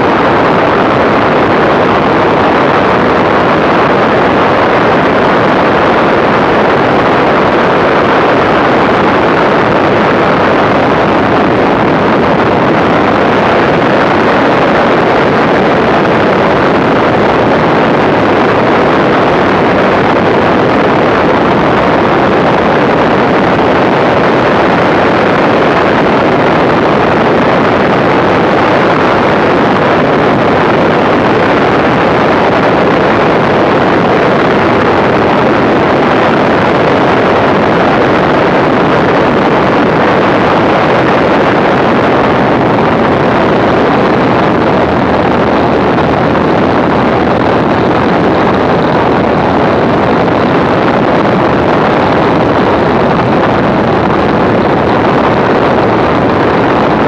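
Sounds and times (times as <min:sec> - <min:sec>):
aircraft engine running in flight: 0:00.0 - 0:57.0
wind rushing over microphone: 0:00.0 - 0:57.0.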